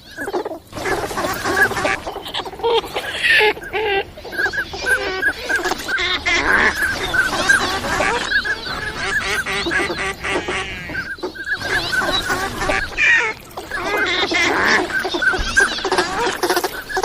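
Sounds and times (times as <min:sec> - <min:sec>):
flock of ducks calling: 0:00.0 - 0:17.0.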